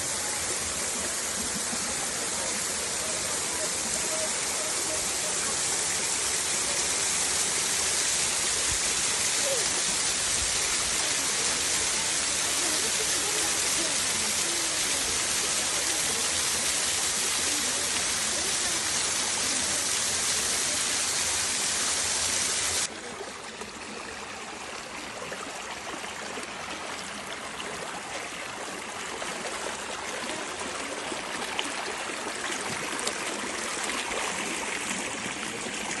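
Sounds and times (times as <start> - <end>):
rushing stream water: 0.0 - 36.0.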